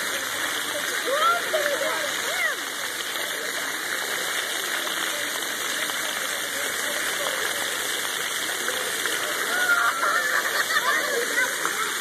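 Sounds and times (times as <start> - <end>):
faint children's voices: 0.0 - 12.0
water jets hissing: 0.0 - 12.0.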